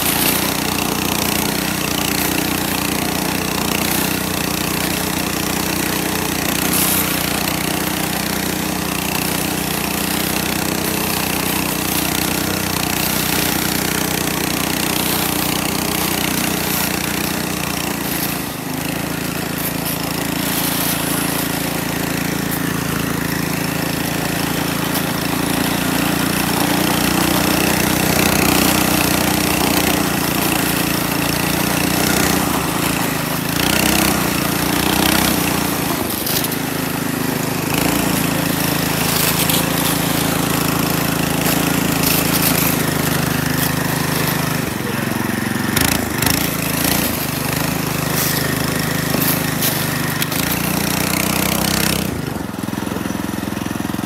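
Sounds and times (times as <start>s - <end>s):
single-cylinder engine running under load: 0.0s - 54.0s.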